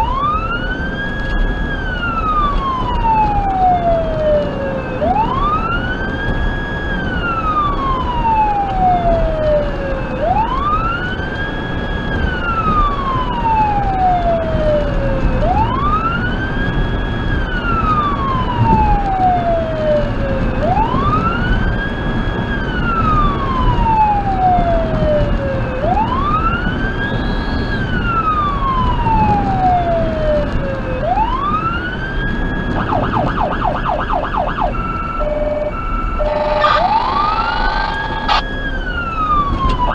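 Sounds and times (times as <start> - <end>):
electronic siren wailing: 0.0 - 11.5, 12.2 - 39.9
vehicle road noise: 0.0 - 39.9.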